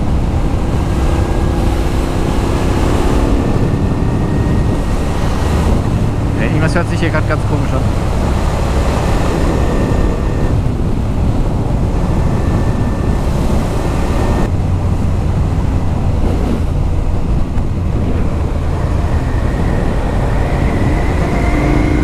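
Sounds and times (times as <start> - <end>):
motorcycle engine hum: 0.0 - 22.0
wind rushing over microphone: 0.0 - 22.0.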